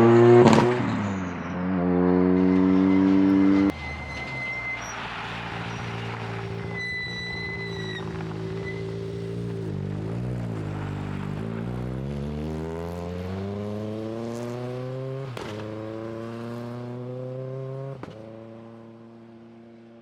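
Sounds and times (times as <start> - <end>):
rally car engine accelerating: 0.0 - 3.8, 5.0 - 19.8.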